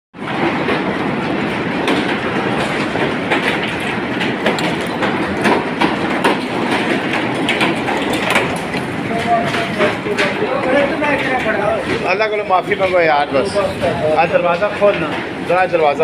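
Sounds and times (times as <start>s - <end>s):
hailstones clattering: 0.2s - 16.0s.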